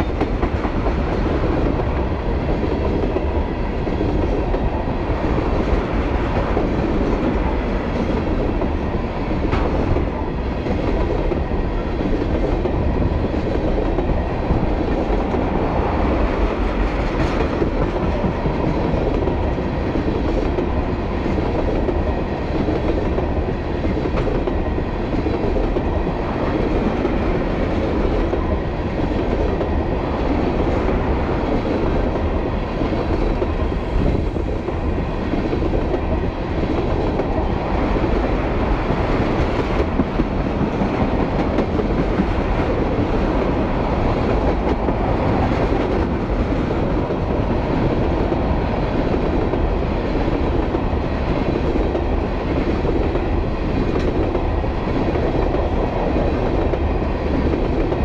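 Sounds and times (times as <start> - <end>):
steel wheels rumbling on rails: 0.0 - 58.0.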